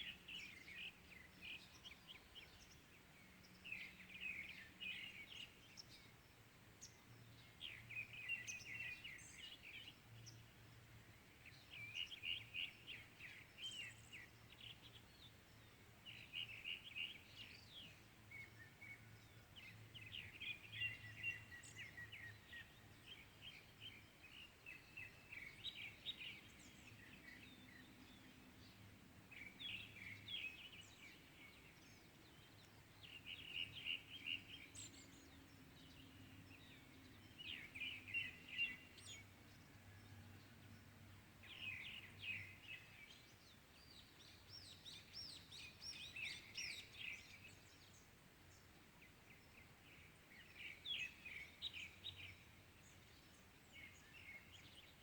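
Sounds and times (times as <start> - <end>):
faint birdsong chirping: 0.0 - 55.0.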